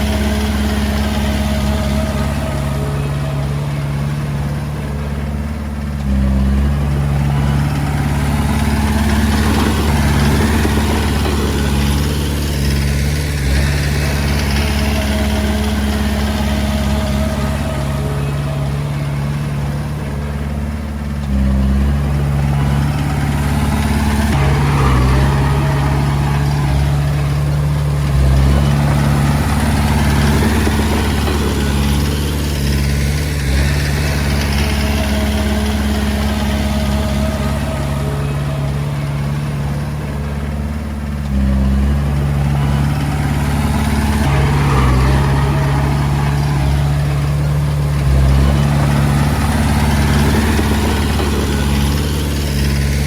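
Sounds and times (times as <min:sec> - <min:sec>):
bulldozer diesel engine working: 0:00.0 - 0:53.0.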